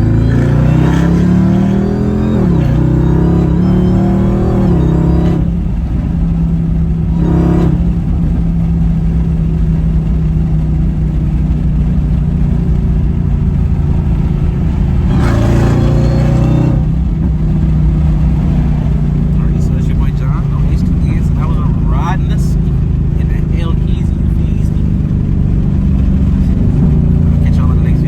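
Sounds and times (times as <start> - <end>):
engine drone from inside car: 0.0 - 28.0.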